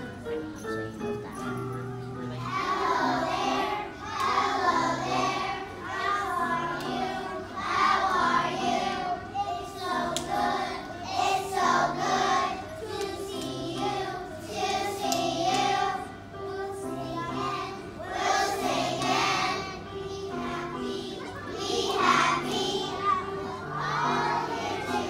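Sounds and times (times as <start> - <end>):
children's choir singing: 2.2 - 25.0.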